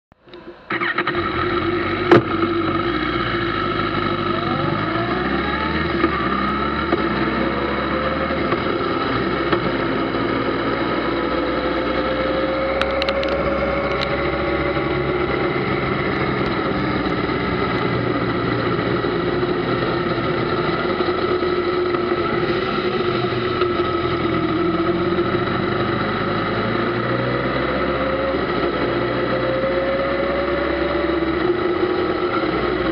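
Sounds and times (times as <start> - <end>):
motorcycle engine running: 0.7 - 32.9.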